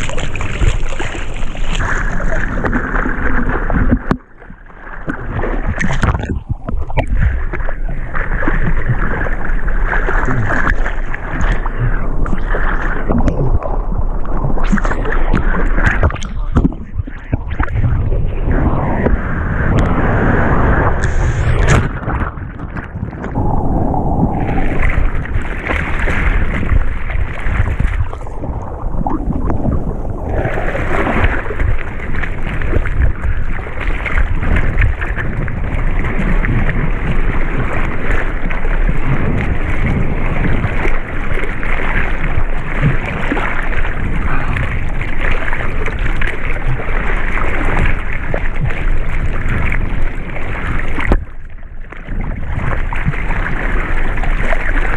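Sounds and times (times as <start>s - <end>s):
hand paddling in water: 0.0s - 51.3s
water rushing and splashing: 0.0s - 54.9s.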